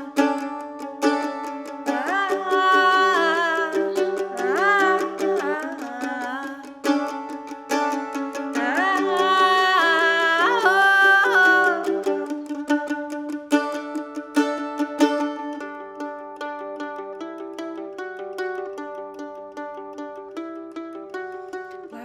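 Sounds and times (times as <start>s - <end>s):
mandolin picking: 0.0s - 22.0s.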